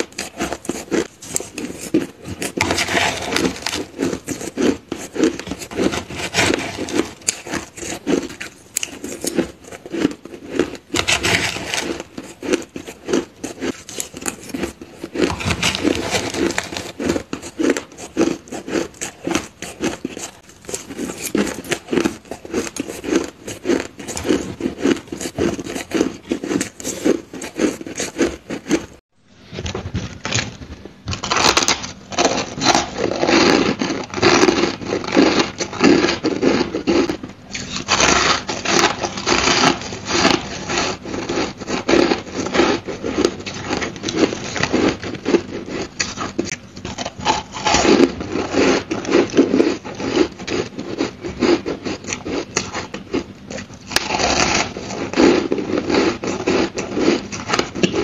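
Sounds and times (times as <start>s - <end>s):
ice being chewed: 0.0s - 29.1s, 31.0s - 58.0s.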